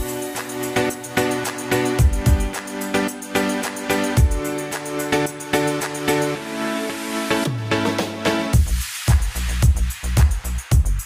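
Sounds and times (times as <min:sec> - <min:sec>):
electronic music with chords: 0:00.0 - 0:11.0.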